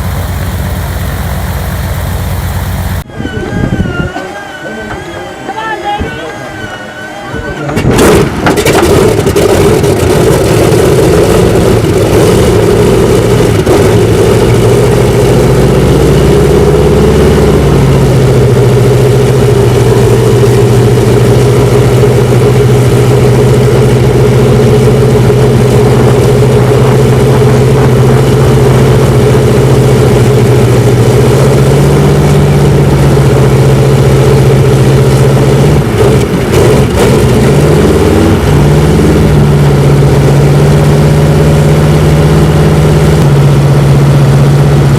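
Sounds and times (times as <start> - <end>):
propeller aircraft engine running: 0.0 - 5.2, 7.6 - 44.9.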